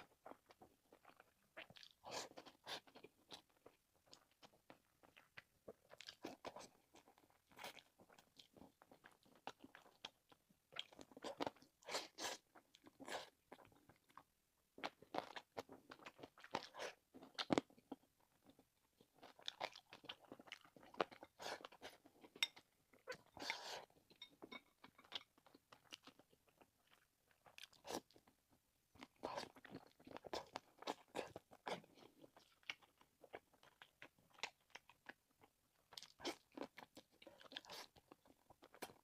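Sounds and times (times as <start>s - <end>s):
chewing and biting food: 0.0s - 28.4s, 29.0s - 39.0s.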